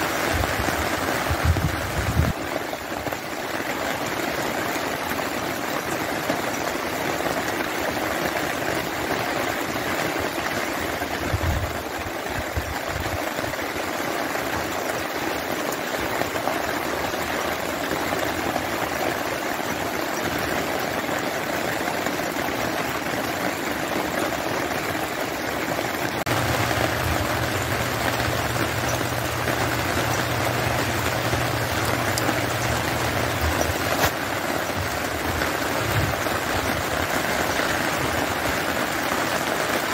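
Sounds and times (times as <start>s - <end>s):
rain falling: 0.0s - 39.9s
running water: 0.0s - 39.9s.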